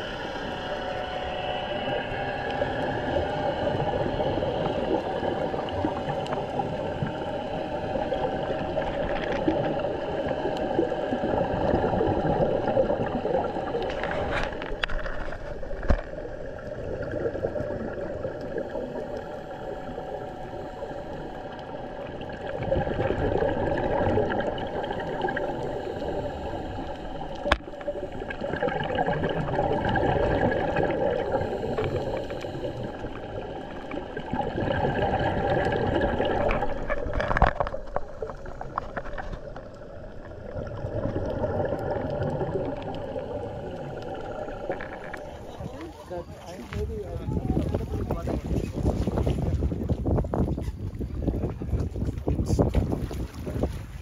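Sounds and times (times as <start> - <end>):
gurgling rushing water: 0.0 - 54.0.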